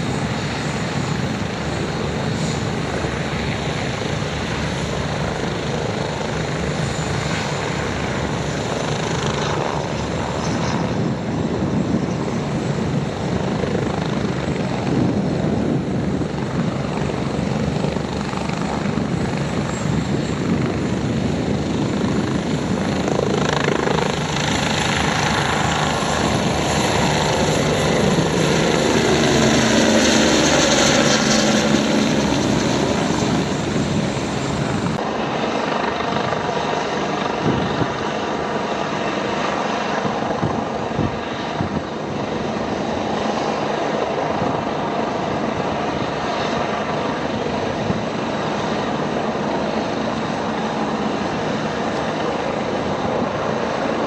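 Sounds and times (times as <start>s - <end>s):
helicopter rotor and turbines: 0.0s - 54.0s.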